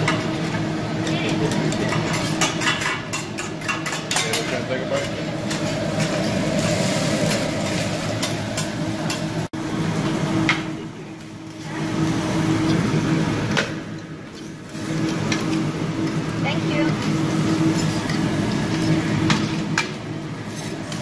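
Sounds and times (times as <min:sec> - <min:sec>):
griddle sizzling: 0:00.0 - 0:21.0.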